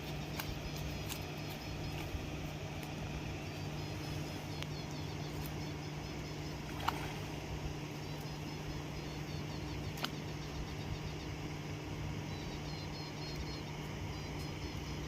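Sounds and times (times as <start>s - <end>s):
outdoor background noise: 0.0s - 15.0s
steady low hum: 0.0s - 15.0s.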